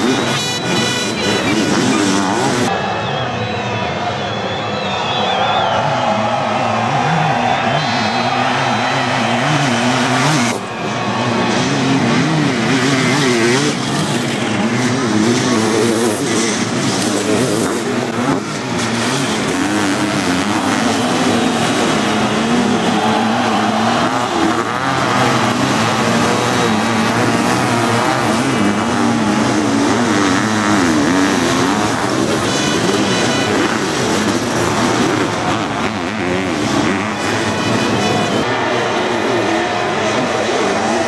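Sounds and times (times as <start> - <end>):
motocross engines revving: 0.0 - 41.0.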